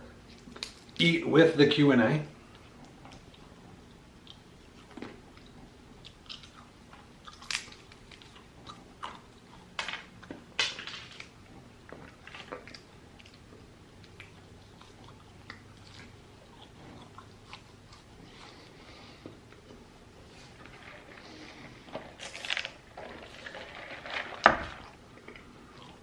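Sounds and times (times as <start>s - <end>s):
person chewing food: 2.4s - 10.3s, 11.8s - 23.9s, 24.8s - 26.0s.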